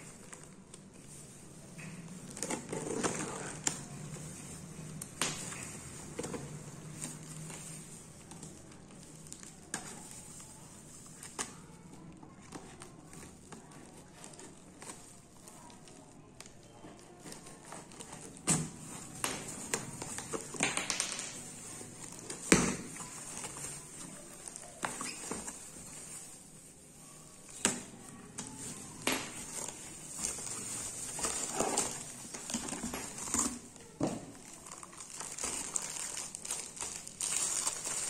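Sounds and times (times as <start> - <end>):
cardboard rustling: 0.0 - 4.7, 5.3 - 38.0
plastic gloves crinkling: 0.0 - 38.0.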